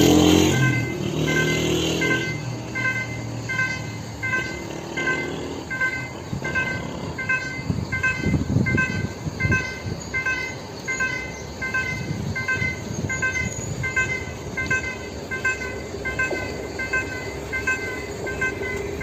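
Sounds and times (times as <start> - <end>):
level crossing warning chime: 0.0 - 19.0
train rumble: 0.0 - 19.0.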